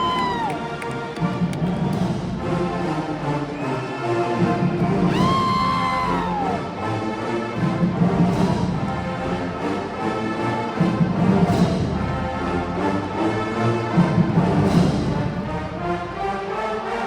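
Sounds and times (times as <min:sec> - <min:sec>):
marching band drums: 0:00.0 - 0:06.9, 0:07.6 - 0:16.3
marching band brass: 0:00.0 - 0:17.0.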